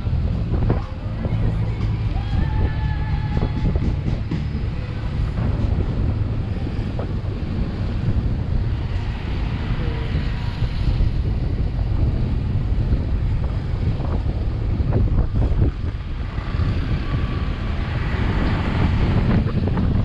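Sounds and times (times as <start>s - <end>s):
road and vehicle noise: 0.0s - 20.0s
wind buffeting microphone: 0.0s - 20.0s.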